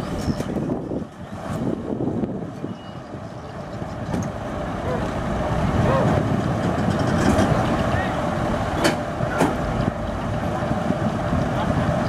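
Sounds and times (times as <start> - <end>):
diesel truck engines idling: 0.0 - 12.0.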